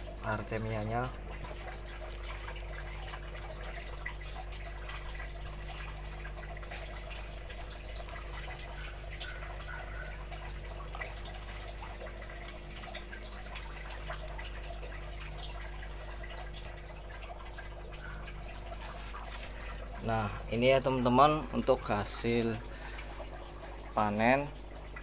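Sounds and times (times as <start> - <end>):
low steady hum: 0.0 - 25.0
water dripping and trickling: 0.0 - 25.0.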